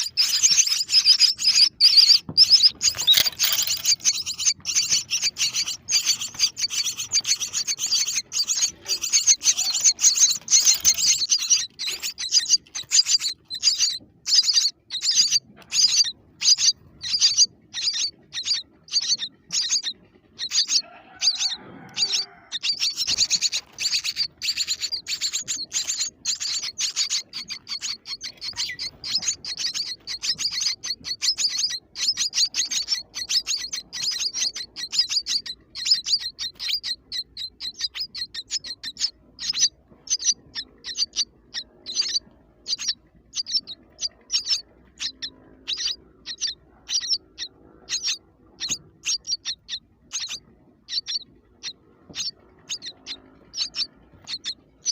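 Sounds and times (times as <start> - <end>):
baby birds chirping: 0.0 - 54.9.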